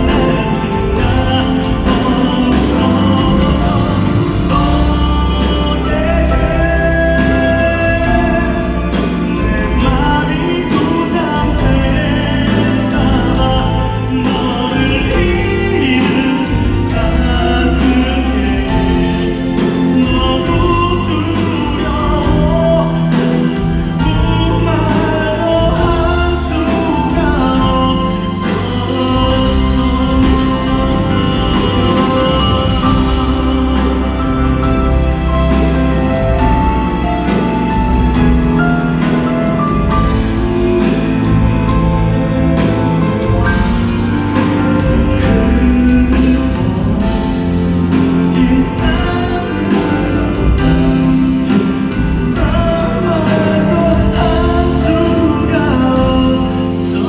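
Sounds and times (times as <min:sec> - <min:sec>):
live band playing loud: 0:00.0 - 0:57.0
people singing: 0:00.0 - 0:57.0.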